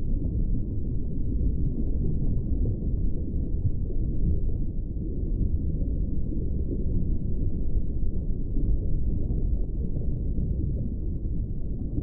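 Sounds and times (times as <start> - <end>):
low underwater rumble: 0.0 - 12.0.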